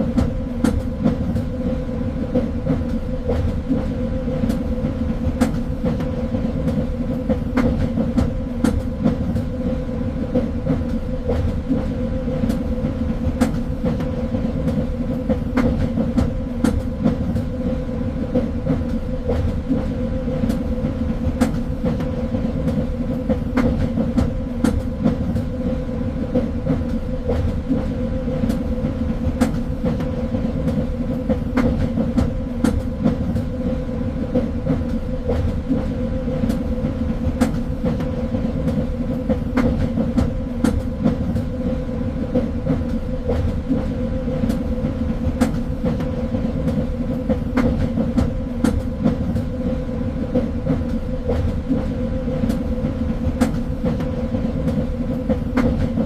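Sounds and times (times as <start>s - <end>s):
train rumbling along track: 0.0s - 56.0s
wheels clacking on rails: 0.0s - 56.0s.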